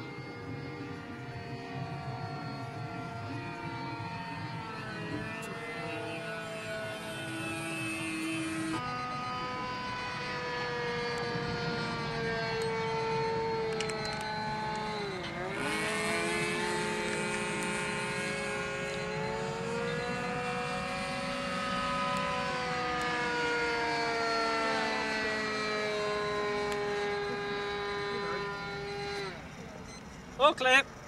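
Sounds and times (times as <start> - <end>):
model aeroplane motor droning: 0.0 - 31.0.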